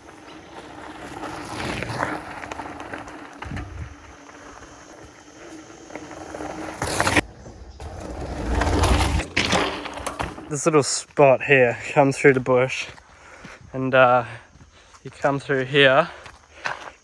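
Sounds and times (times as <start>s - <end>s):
bike tyre trail noise: 0.0s - 17.0s.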